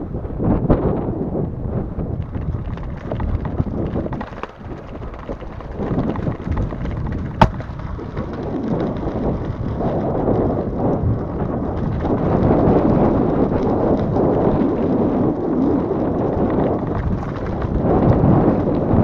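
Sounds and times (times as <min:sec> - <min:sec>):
bike tyres rumbling on rough ground: 0:00.4 - 0:19.0.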